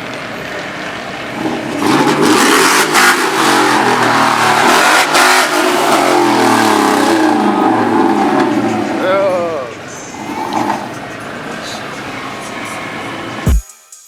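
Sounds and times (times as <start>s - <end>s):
engine revving loudly: 0.3s - 13.5s.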